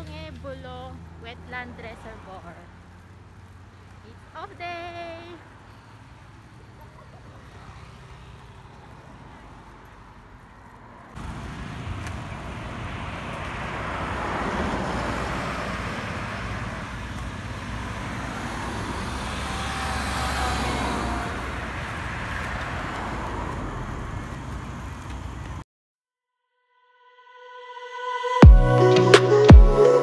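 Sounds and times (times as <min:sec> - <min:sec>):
cars passing on road: 0:00.0 - 0:25.6.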